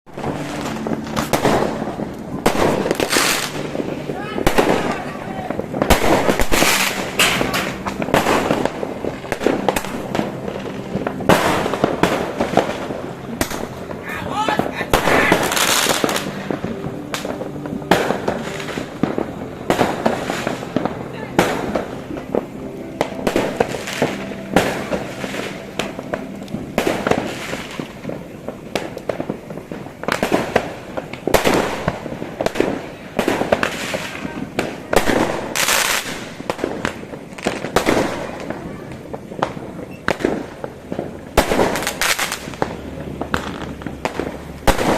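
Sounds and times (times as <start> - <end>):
fireworks bangs and crackles: 0.1 - 44.9.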